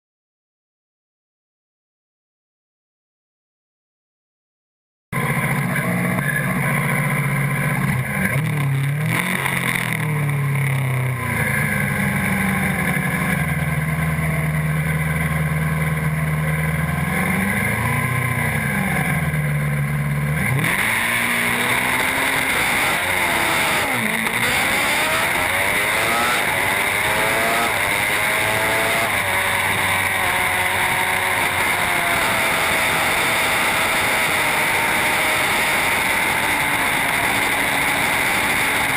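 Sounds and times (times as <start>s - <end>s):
motorcycle engines revving: 5.2s - 38.9s.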